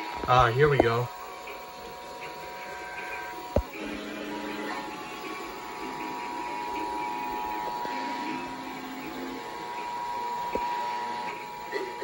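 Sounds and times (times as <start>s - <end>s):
two-tone alert alarm: 0.8s - 12.0s.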